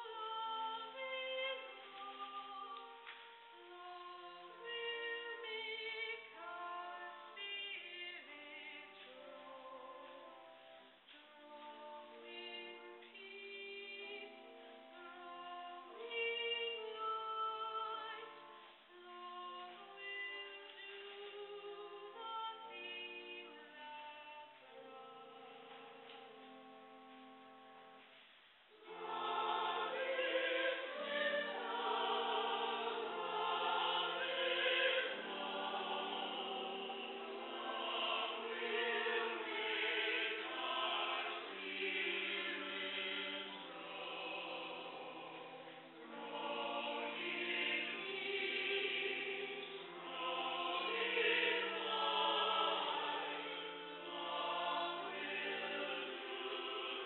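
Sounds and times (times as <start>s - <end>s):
church choir singing: 0.0s - 11.0s, 11.9s - 19.1s, 19.7s - 28.0s, 28.8s - 57.0s.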